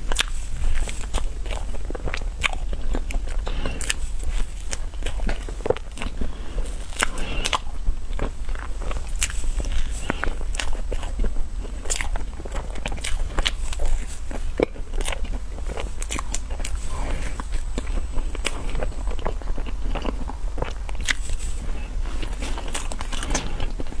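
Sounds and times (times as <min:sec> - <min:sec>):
steady low hum: 0:00.0 - 0:24.0
chewing and mouth sounds: 0:00.1 - 0:24.0.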